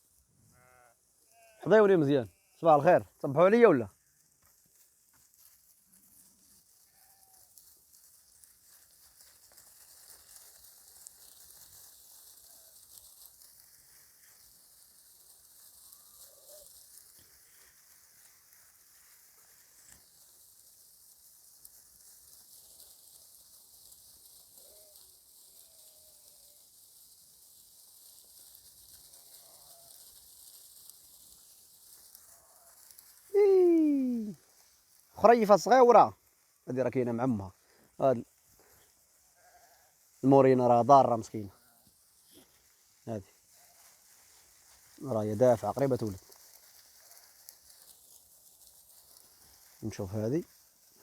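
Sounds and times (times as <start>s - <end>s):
background hiss: 0.0s - 51.0s.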